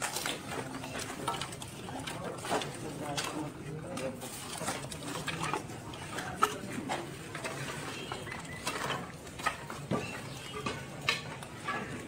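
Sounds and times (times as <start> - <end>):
wooden logs knocking and clattering: 0.0 - 12.0.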